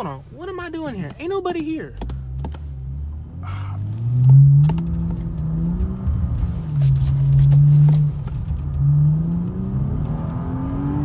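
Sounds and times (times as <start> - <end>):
car engine revving: 1.9 - 11.0.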